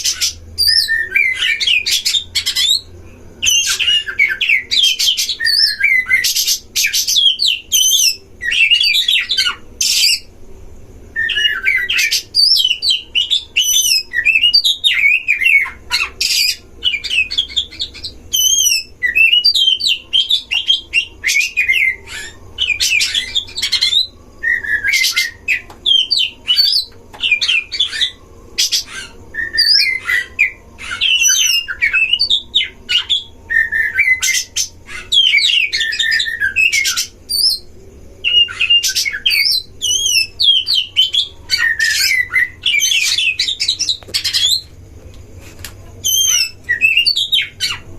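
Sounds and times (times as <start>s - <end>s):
birds singing whistled song: 0.0s - 10.4s, 11.0s - 47.9s.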